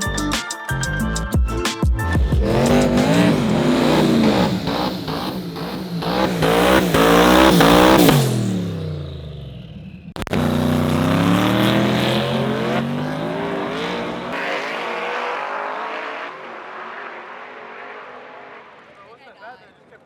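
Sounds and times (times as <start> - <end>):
race car engines at full throttle: 2.1 - 20.0.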